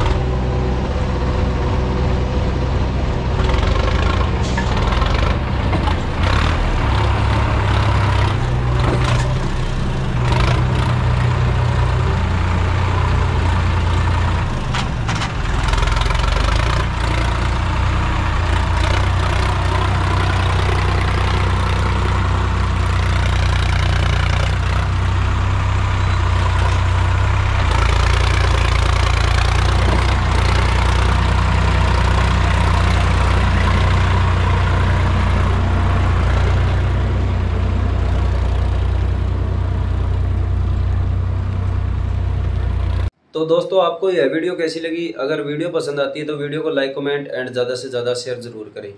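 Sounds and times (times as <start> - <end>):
tractor diesel engine running hard: 0.0 - 43.2.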